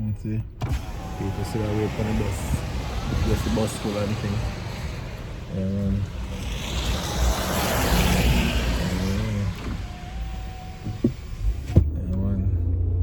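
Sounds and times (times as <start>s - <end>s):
steady low rumble: 0.0s - 13.0s
vehicle passing by: 0.7s - 11.8s.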